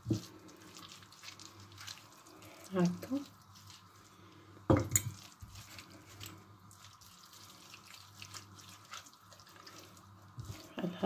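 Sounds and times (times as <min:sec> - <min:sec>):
hands squelching in wet marinade: 0:00.0 - 0:04.4, 0:05.1 - 0:11.0
low steady hum: 0:00.0 - 0:11.0.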